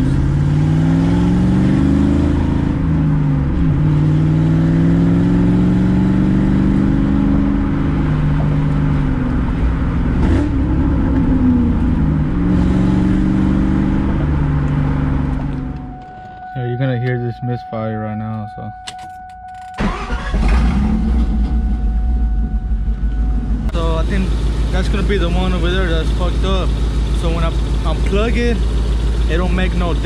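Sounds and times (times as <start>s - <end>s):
car engine revving: 0.0s - 18.8s, 19.5s - 30.0s.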